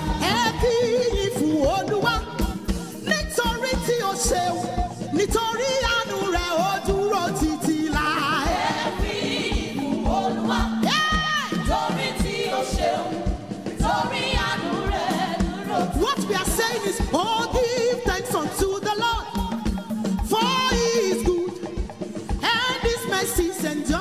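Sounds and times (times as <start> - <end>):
backing singers: 0.0 - 24.0
band with steady drum beat: 0.0 - 24.0
woman singing lead: 0.0 - 24.0.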